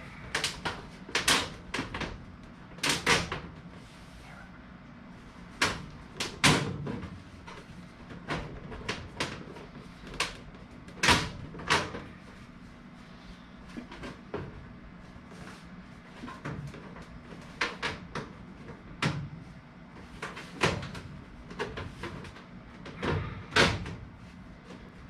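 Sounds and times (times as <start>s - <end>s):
knocks and clunks of ductwork: 0.0s - 25.0s
low background hum: 0.0s - 25.0s.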